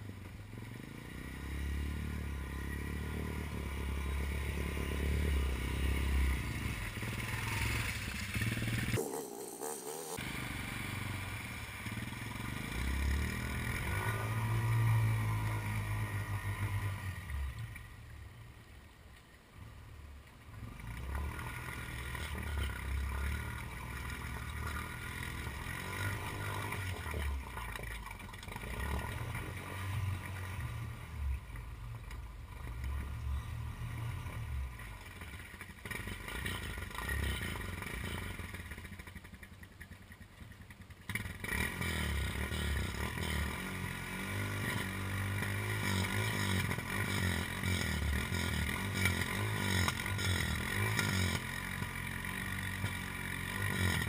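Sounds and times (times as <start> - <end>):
quad engine revving and idling: 0.0 - 17.9, 20.5 - 39.5, 41.0 - 54.0.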